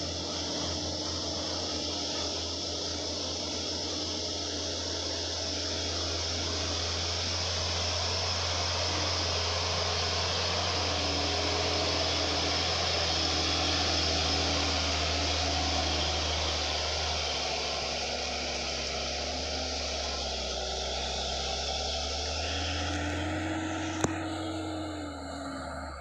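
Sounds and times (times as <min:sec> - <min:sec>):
rushing noise of passing truck: 0:00.0 - 0:26.0
truck diesel engine droning: 0:00.0 - 0:26.0.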